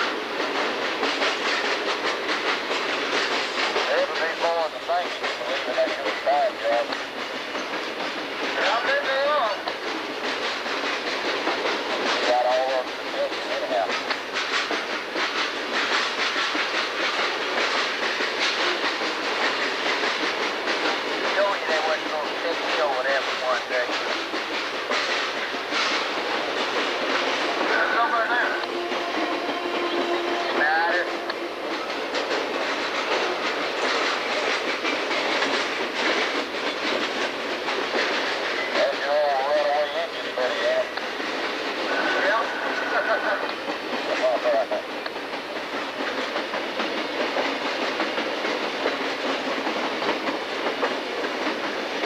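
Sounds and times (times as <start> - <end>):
train wheels clattering on rails: 0.0 - 52.0.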